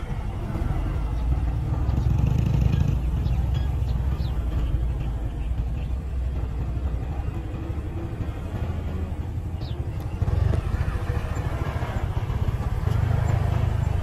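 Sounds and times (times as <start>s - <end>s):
truck engine rumble: 0.0s - 14.0s
motorcycle pulling away: 1.0s - 14.0s.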